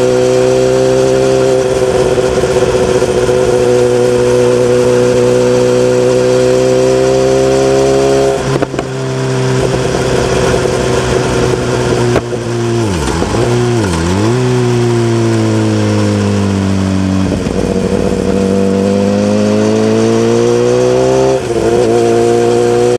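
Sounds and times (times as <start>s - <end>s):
motorcycle engine: 0.0s - 22.9s.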